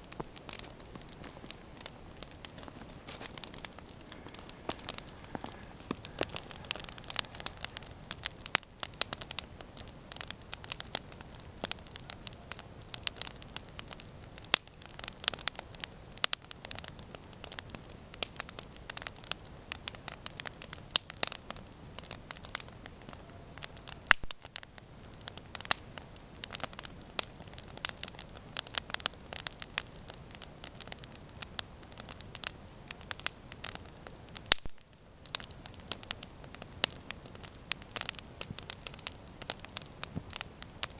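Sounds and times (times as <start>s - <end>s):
campfire crackling: 0.0s - 40.9s
fire snaps and pops: 0.0s - 40.9s.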